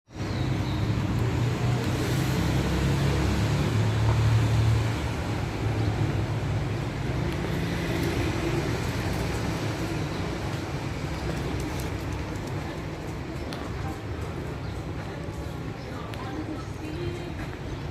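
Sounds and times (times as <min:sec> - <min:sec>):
steady road rumble: 0:00.1 - 0:17.9
vehicle engines running: 0:00.1 - 0:17.9.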